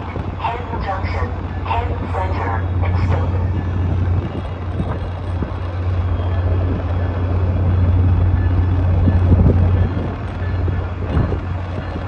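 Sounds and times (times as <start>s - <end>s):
trains idling rumble and hum: 0.0s - 12.0s.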